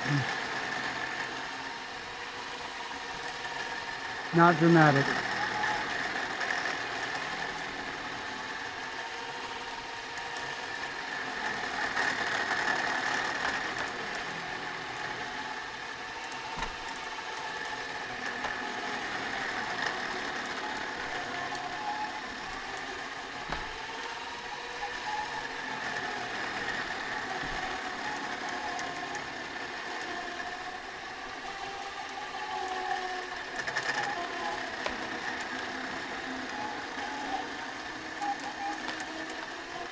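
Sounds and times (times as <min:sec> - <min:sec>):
winch motor running: 0:00.0 - 0:39.9.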